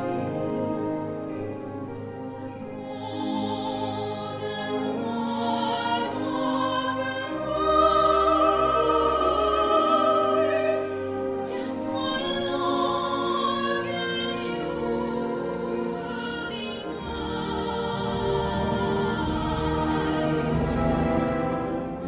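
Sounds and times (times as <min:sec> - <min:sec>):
operatic soprano singing: 0:00.0 - 0:22.0
orchestra with brass: 0:00.0 - 0:22.0.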